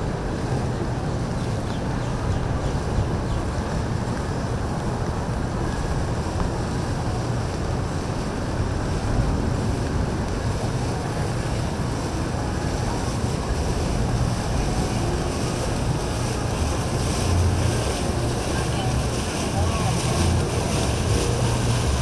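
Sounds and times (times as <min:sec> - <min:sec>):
boat motors rumbling: 0:00.0 - 0:22.0
waves: 0:00.0 - 0:22.0
wind buffeting microphone: 0:00.0 - 0:22.0.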